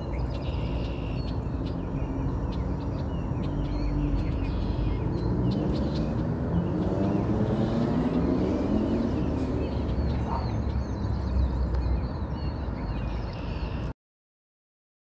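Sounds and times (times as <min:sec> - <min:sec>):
distant vehicle engine drone: 0:00.0 - 0:13.9
small birds chirping: 0:00.0 - 0:13.9.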